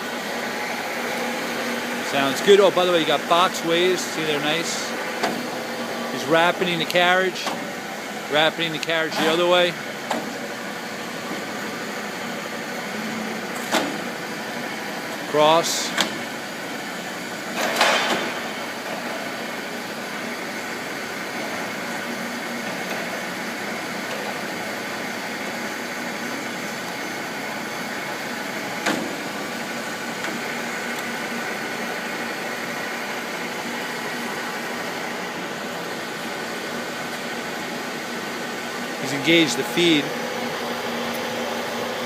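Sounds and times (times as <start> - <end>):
lathe motor humming: 0.0 - 17.6, 18.5 - 42.0.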